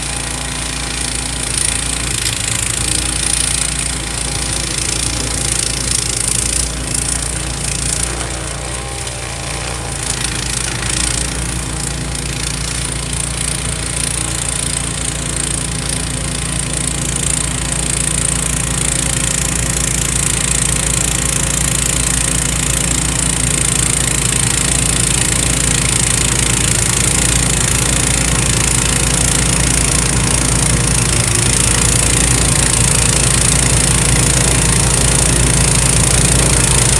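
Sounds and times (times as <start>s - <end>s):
snowblower engine running: 0.0s - 36.9s.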